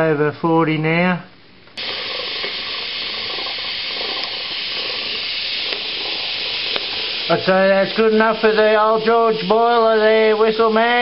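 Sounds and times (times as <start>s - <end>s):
steam venting hiss: 1.8s - 11.0s.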